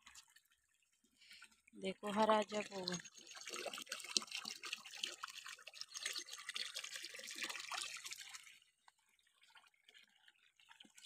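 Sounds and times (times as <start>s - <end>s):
irrigation water trickling and splashing: 0.0s - 11.0s.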